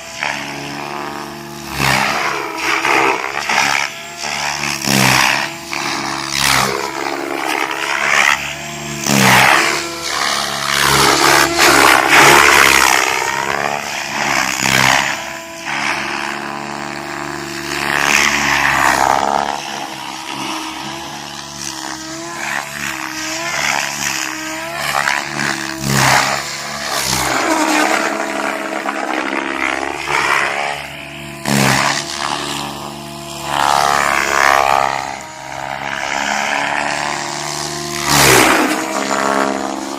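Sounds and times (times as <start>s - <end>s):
rc helicopter rotor and motor whine: 0.0s - 39.9s.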